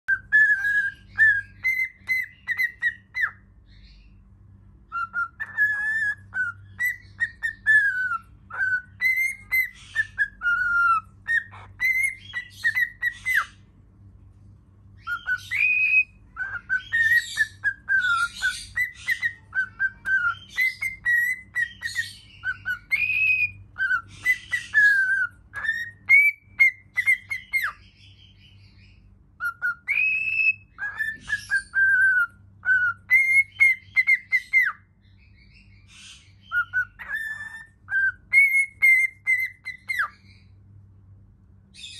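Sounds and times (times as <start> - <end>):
cockatiel whistling: 0.1 - 4.0, 4.9 - 13.6, 15.0 - 40.5.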